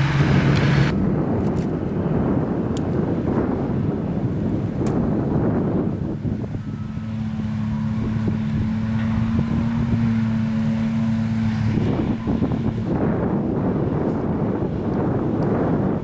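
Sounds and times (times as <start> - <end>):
forage harvester droning hum: 0.0 - 16.0
wind buffeting microphone: 0.0 - 16.0.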